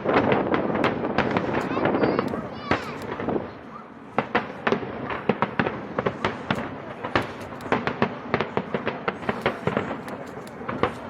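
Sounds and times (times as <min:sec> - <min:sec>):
fireworks bangs and crackles: 0:00.0 - 0:11.0
rumble of fireworks bursts: 0:00.0 - 0:11.0.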